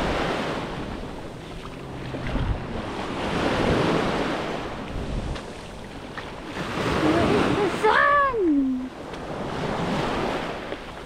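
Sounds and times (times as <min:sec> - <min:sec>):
small waves washing onto beach: 0:00.0 - 0:11.0
wind buffeting microphone: 0:00.0 - 0:11.0.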